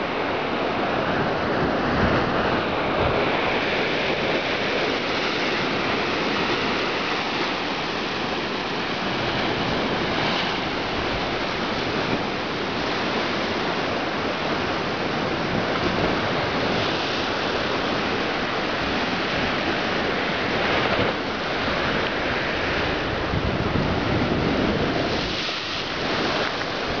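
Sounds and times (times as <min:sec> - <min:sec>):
ocean surf breaking on rocks: 0:00.0 - 0:27.0.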